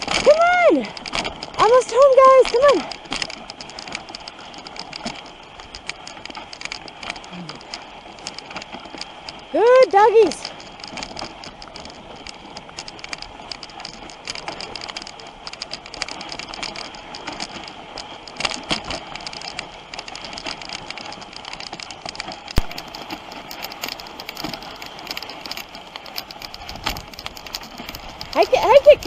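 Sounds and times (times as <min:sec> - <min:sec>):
sled rattling and clicking: 0:00.0 - 0:29.0.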